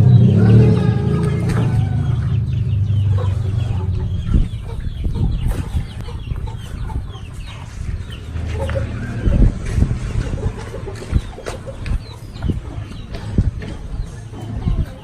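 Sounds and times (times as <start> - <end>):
chickens clucking: 0.0 - 15.0
low rumble: 0.0 - 15.0.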